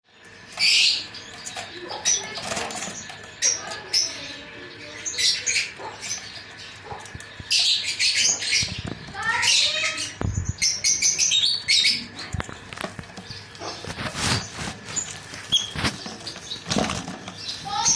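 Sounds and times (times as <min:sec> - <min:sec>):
birds chirping: 0:00.1 - 0:17.9.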